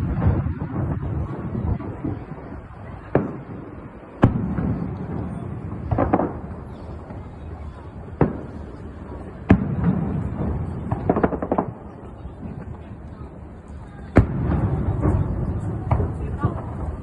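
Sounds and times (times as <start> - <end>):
fireworks booming: 0.0 - 17.0
small firework pops: 0.0 - 17.0.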